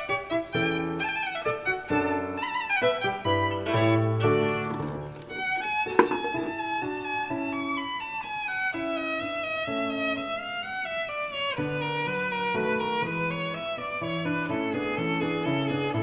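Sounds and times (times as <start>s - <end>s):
violin melody: 0.0s - 4.7s, 5.3s - 16.0s.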